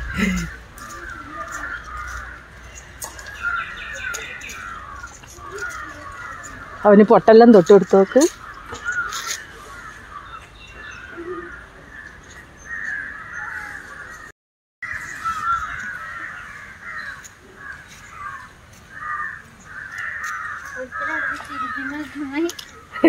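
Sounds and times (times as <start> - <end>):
crows cawing: 0.0 - 22.7.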